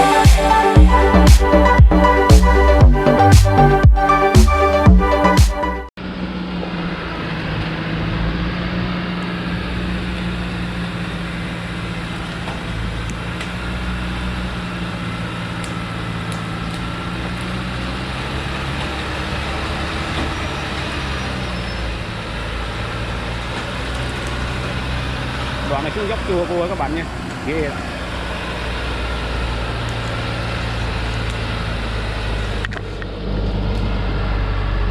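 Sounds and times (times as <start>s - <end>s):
diesel truck engine droning: 0.0s - 34.9s.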